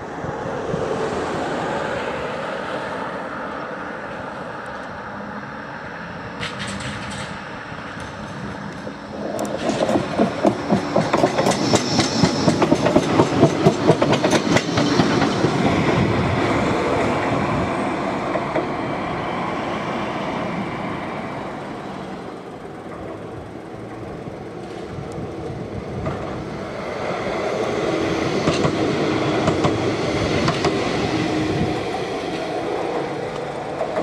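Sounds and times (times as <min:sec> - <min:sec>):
tram wheels clattering over rail joints: 0:06.2 - 0:34.0.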